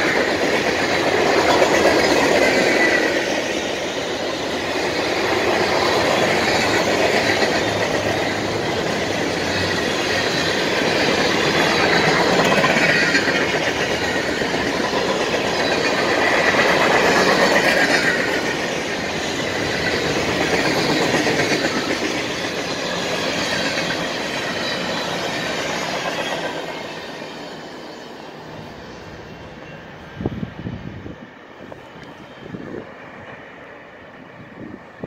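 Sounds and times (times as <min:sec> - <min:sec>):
train wheels rumbling and clattering: 0:00.0 - 0:35.0.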